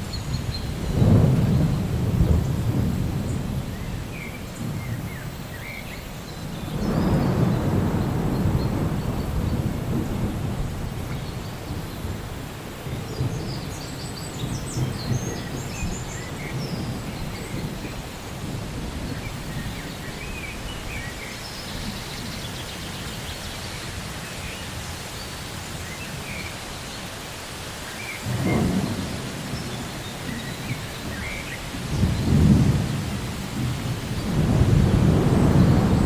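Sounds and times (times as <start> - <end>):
low thunder rumbling: 0.0 - 5.5, 6.4 - 23.0, 28.2 - 36.0
steady rain falling: 0.0 - 36.0.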